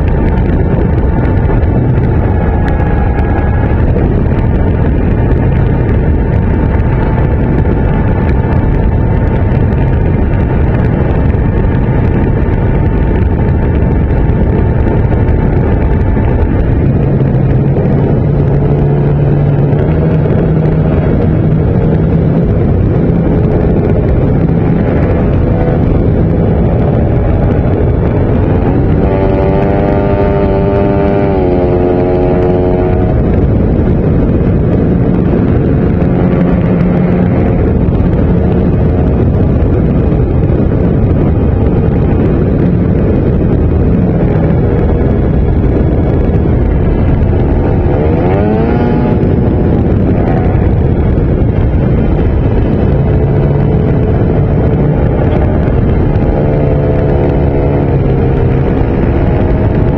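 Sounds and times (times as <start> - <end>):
lower tone: 0.0 - 59.9
wind rush over microphone: 0.0 - 59.9.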